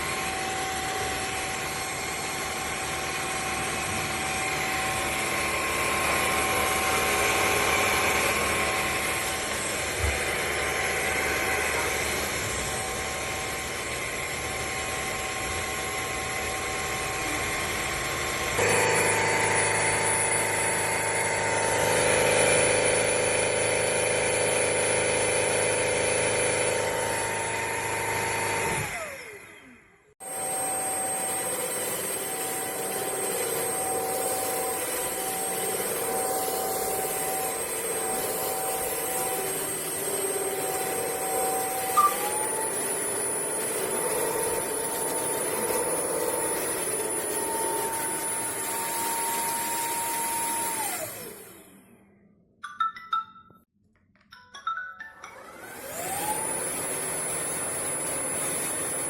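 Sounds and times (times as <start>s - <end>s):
wet-dry vacuum running: 0.0s - 52.1s, 55.4s - 59.0s.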